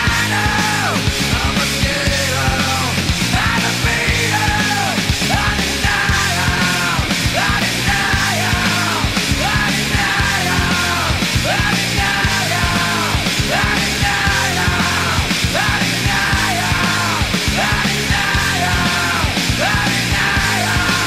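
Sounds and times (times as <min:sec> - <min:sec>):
bass: 0:00.0 - 0:21.0
drum beat: 0:00.0 - 0:21.0
rock music with singing: 0:00.0 - 0:21.0.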